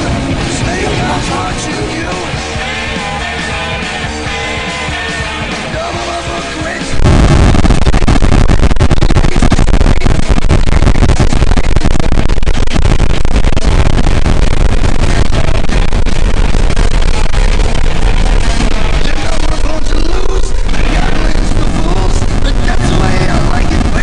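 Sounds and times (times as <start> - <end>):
distorted rock music: 0.0 - 24.0.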